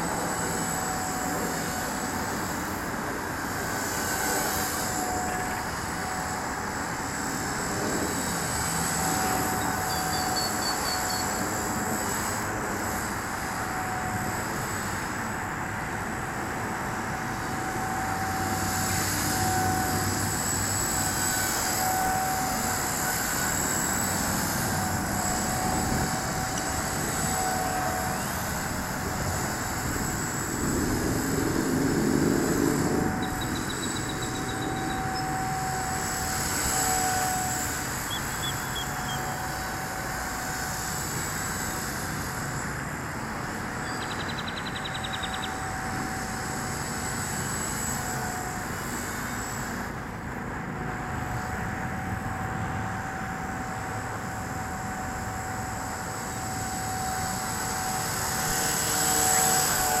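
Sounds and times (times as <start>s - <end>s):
rc helicopter motor whine: 0.0s - 60.0s.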